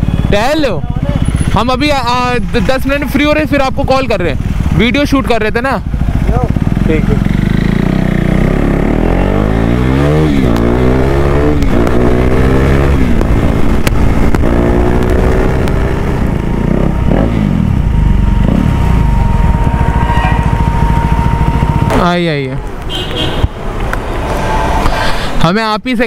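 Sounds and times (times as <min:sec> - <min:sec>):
motorcycle engine accelerating: 0:00.0 - 0:22.9.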